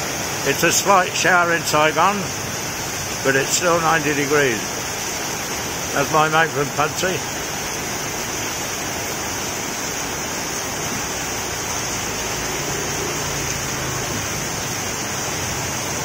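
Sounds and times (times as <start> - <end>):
heavy rain pouring: 0.0 - 16.0
rainwater running off an awning: 0.0 - 16.0.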